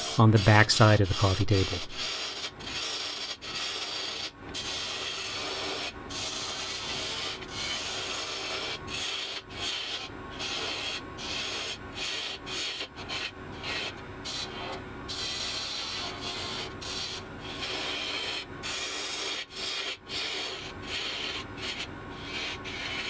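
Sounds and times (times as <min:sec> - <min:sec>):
wood lathe tool scraping: 0:00.0 - 0:23.0.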